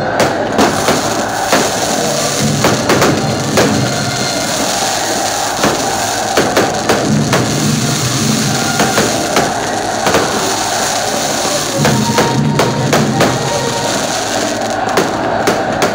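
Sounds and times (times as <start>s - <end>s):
fireworks cracking and popping: 0.0s - 15.9s
music playing: 0.7s - 15.6s.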